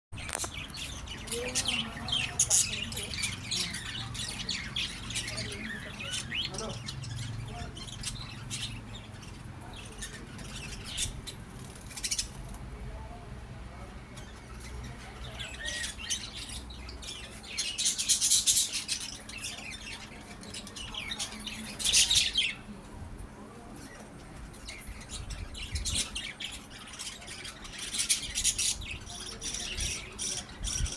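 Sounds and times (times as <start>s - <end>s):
birds squawking and chirping: 0.2s - 13.2s, 13.8s - 22.8s, 23.5s - 30.9s.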